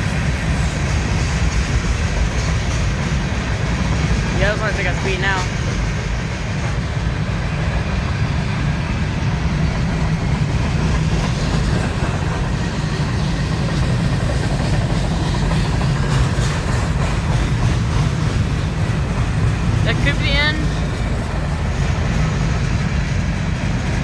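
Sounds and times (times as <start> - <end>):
train cars rolling on rails: 0.0 - 24.0.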